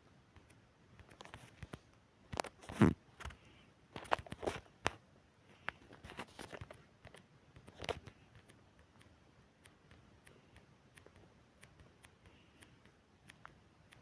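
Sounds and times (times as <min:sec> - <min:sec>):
faint clicks and taps: 0:00.3 - 0:03.4, 0:04.0 - 0:14.0.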